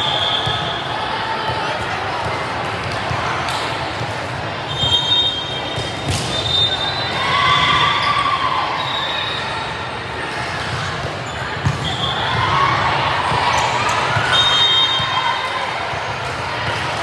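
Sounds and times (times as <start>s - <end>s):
voices in hall: 0.0s - 17.0s.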